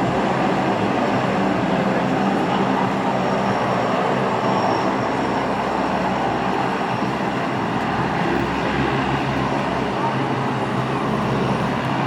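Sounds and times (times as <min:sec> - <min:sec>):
aircraft turbine engines running: 0:00.0 - 0:12.0.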